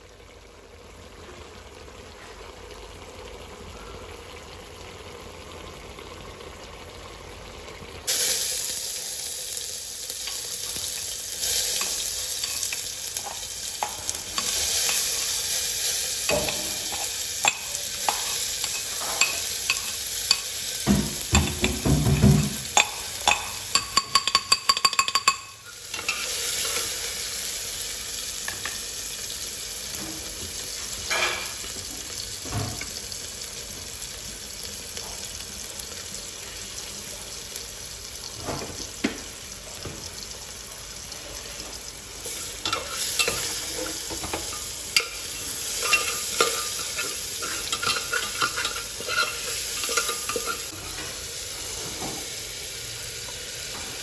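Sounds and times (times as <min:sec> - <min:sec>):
hot oil sizzling: 0:00.0 - 0:54.0.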